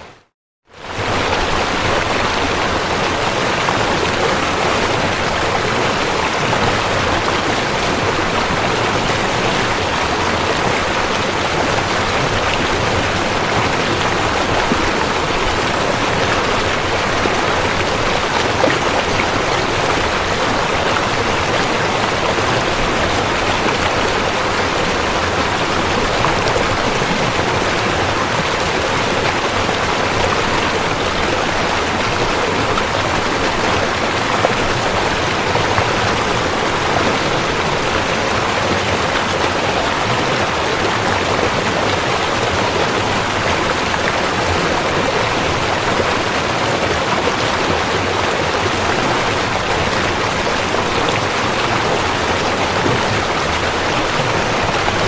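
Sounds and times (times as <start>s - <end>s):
rushing river: 0.0s - 55.0s.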